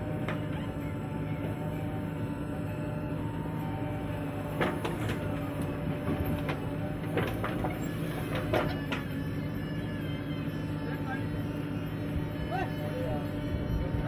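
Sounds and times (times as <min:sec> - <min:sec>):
diesel backhoe engine running: 0:00.0 - 0:14.0.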